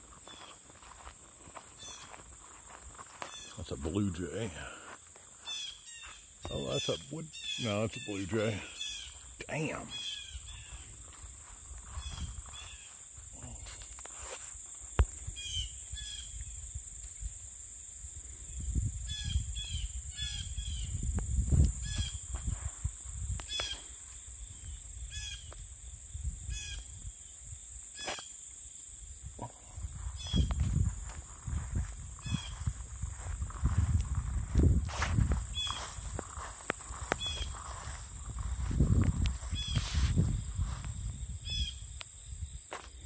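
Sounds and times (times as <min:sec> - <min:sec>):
insects droning: 0:00.0 - 0:43.0.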